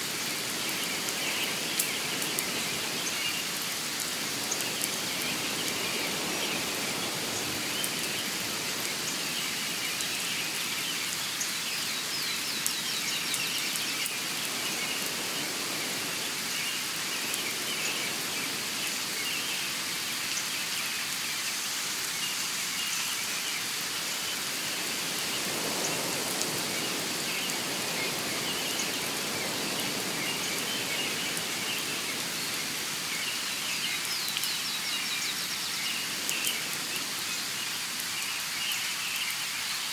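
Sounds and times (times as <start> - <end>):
rain-like hiss: 0.0 - 39.9
small birds chirping: 0.2 - 39.9.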